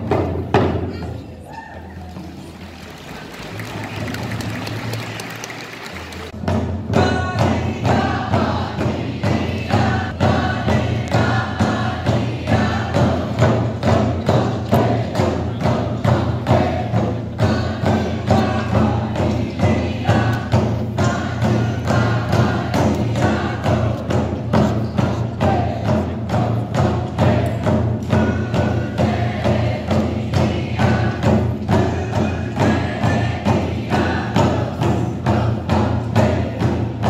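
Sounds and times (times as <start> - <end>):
frame drums beating: 0.0 - 1.2, 2.2 - 37.0
group singing in unison: 7.0 - 37.0.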